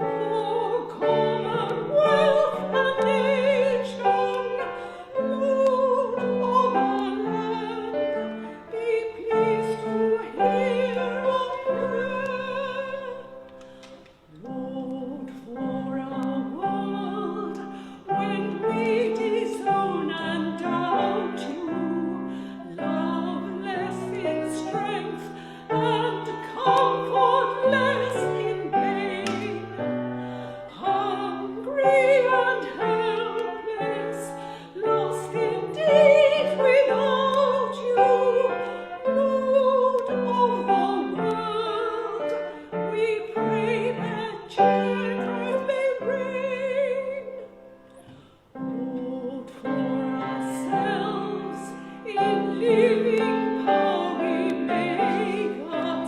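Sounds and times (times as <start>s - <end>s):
classical solo singing with vibrato: 0.0s - 56.0s
piano accompaniment: 0.0s - 56.0s.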